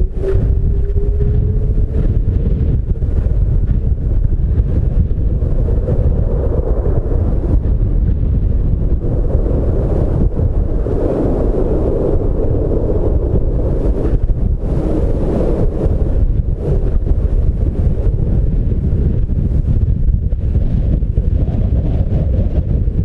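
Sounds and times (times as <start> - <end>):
jet engines rumbling: 0.0 - 23.0
wind buffeting microphone: 0.0 - 23.0.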